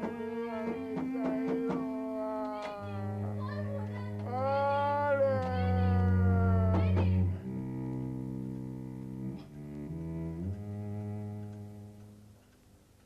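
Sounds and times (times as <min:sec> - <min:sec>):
low bowed strings: 0:00.0 - 0:12.5.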